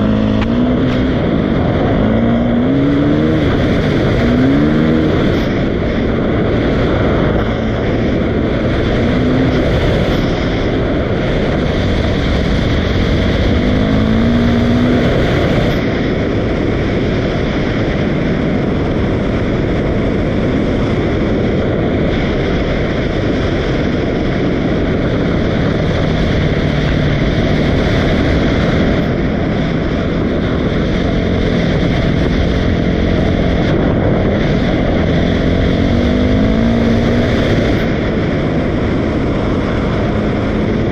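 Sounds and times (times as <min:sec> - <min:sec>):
dirt bike engine running: 0:00.0 - 0:40.9
loud rushing noise: 0:00.0 - 0:40.9.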